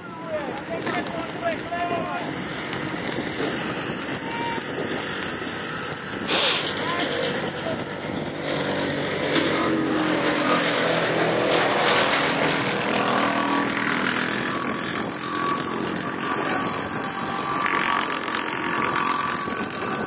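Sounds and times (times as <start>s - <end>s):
motor engine running: 0.0s - 20.0s
wind noise: 0.3s - 20.0s.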